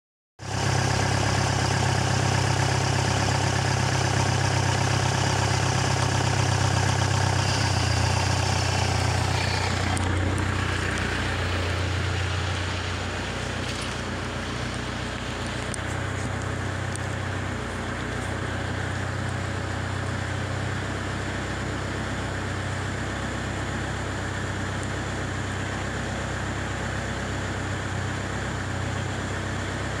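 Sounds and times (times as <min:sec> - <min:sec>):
diesel engine idling: 0:00.4 - 0:30.0.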